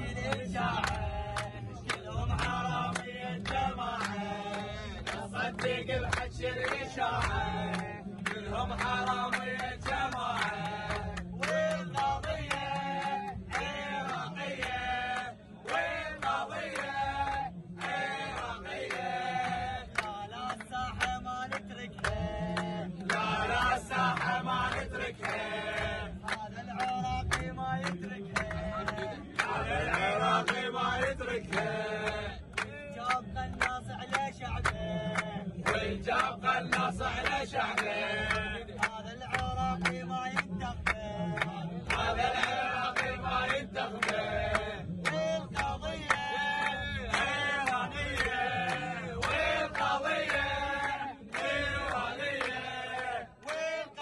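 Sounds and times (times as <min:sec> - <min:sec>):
hand claps: 0:00.0 - 0:54.0
men chanting in unison: 0:00.0 - 0:54.0.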